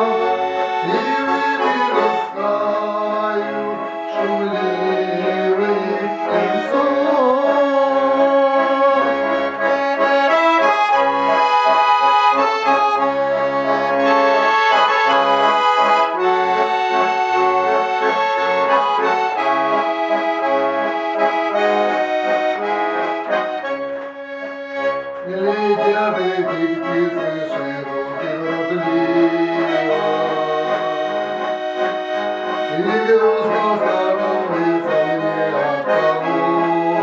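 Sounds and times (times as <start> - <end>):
button accordion playing melody: 0.0 - 37.0.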